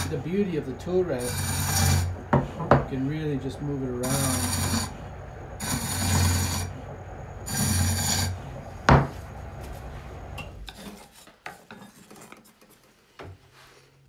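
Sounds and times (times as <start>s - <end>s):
turning tool scraping wood: 0.0s - 3.0s, 3.8s - 13.9s.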